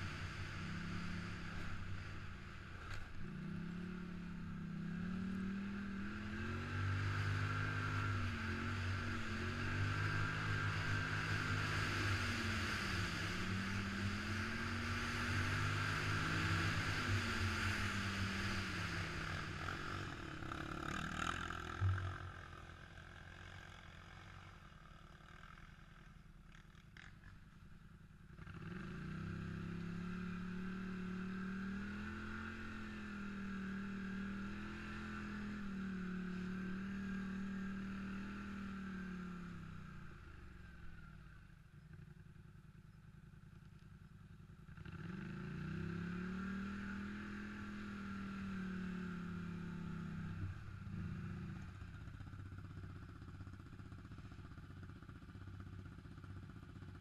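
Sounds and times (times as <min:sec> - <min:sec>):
atv engine revving: 0:02.9 - 0:24.6, 0:28.4 - 0:40.0, 0:44.8 - 0:57.0.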